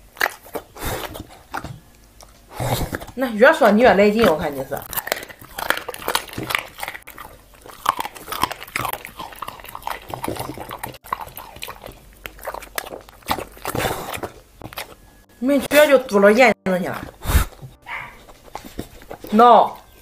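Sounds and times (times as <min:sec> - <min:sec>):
dog chewing meat: 0:00.0 - 0:16.1, 0:16.8 - 0:20.0.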